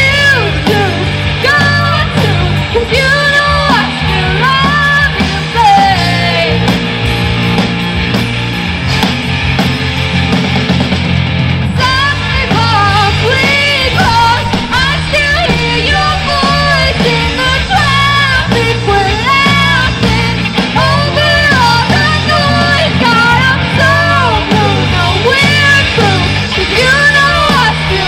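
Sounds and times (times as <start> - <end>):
woman singing: 0.0 - 6.7, 11.7 - 28.0
live rock band playing: 0.0 - 28.0.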